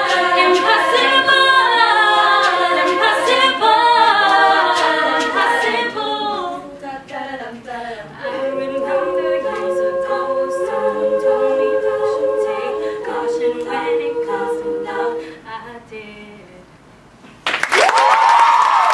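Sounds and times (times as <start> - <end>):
women's group singing in harmony: 0.0 - 16.6.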